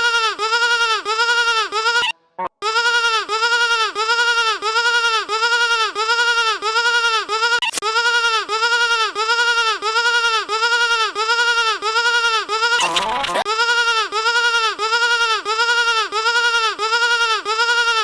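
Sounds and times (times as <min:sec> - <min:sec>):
warbling bleat-like tone: 0:00.0 - 0:03.7, 0:06.1 - 0:18.0.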